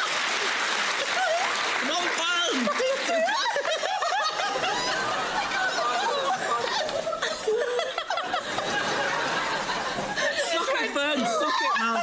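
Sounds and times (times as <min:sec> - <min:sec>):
people laughing: 0:01.0 - 0:12.0.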